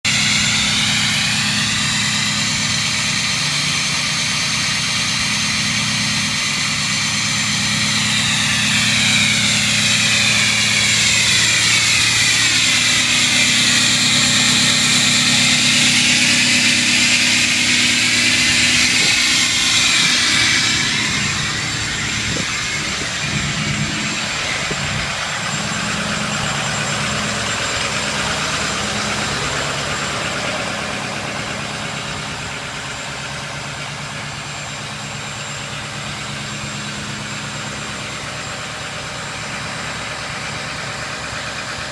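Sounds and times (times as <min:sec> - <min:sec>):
diesel engine idling: 0:00.0 - 0:41.9
high turbocharger whistle: 0:00.1 - 0:41.9.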